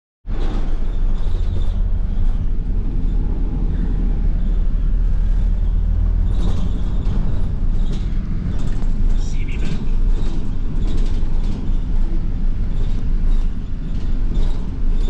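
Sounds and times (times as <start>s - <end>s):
bus engine and road rumble: 0.2s - 15.0s.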